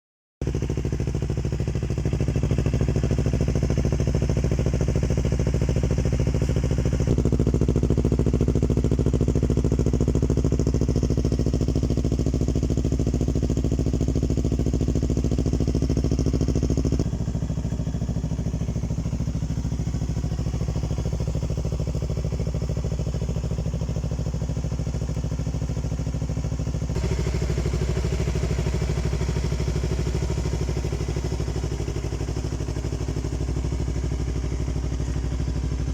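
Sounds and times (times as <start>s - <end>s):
motorcycle engine idling: 0.4s - 35.9s.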